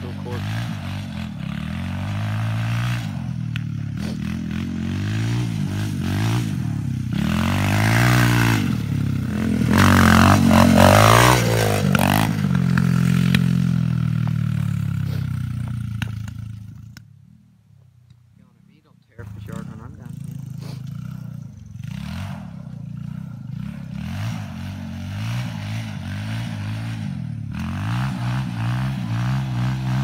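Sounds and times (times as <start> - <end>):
dirt bike engine revving: 0.0 - 17.0, 19.1 - 30.0.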